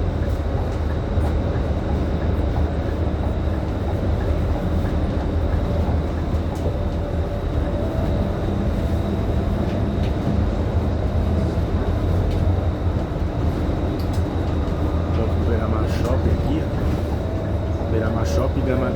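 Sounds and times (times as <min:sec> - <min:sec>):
bus engine droning: 0:00.0 - 0:18.9
road and rolling noise: 0:00.0 - 0:18.9.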